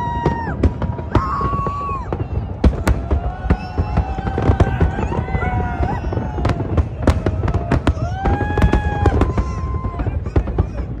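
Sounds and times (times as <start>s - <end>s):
high gliding firework whistles: 0.0s - 10.9s
fireworks cracks and bangs: 0.0s - 11.0s.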